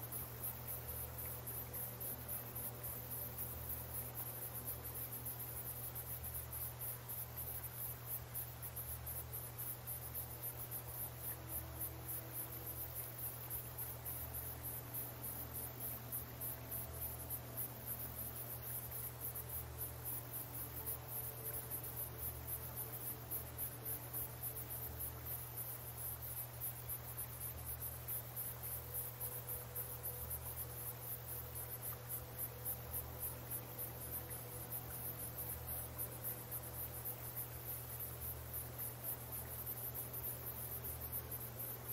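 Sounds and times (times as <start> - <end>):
crickets chirping: 0.0 - 41.9
low steady hum: 0.0 - 41.9.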